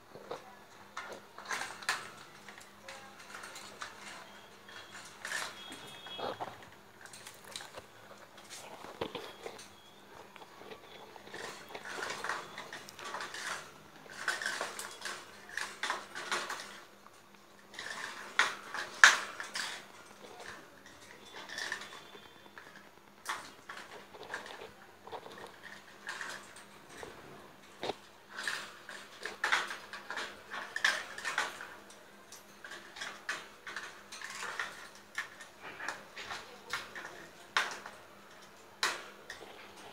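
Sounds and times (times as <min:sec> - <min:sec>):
parakeets clicking on cage bars: 0:00.9 - 0:16.9, 0:17.7 - 0:39.9.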